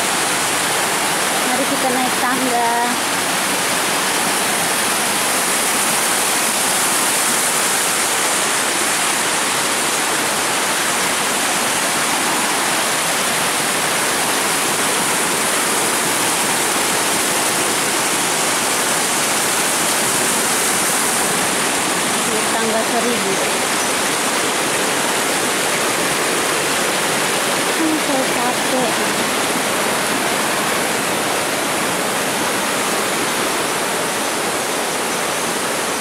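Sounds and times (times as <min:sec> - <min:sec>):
small waterfall splashing: 0:00.0 - 0:36.0.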